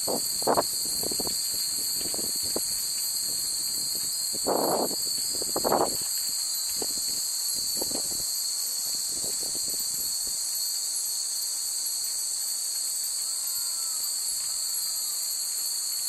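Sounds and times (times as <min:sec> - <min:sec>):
faint wind chimes: 0:00.0 - 0:16.0
high-pitched insect chorus: 0:00.0 - 0:16.0.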